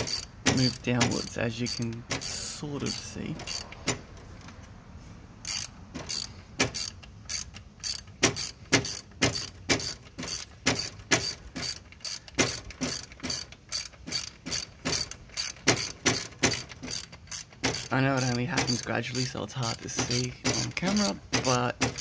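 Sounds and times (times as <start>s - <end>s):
ratchet wrench clicking: 0.0s - 4.0s, 5.4s - 22.0s.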